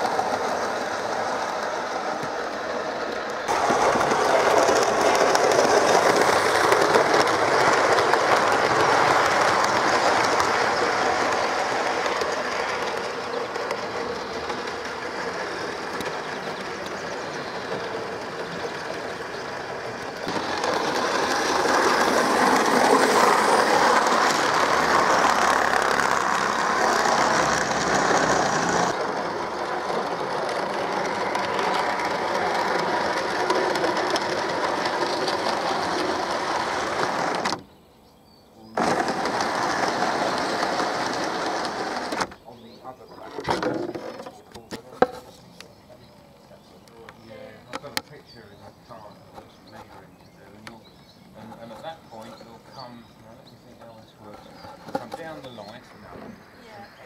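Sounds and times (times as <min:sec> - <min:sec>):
model train rattling on track: 0:00.0 - 0:37.7, 0:38.7 - 0:57.0.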